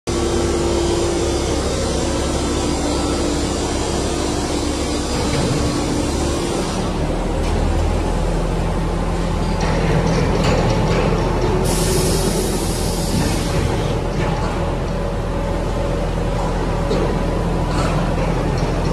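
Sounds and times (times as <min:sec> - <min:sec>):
factory machinery running: 0:00.1 - 0:18.9.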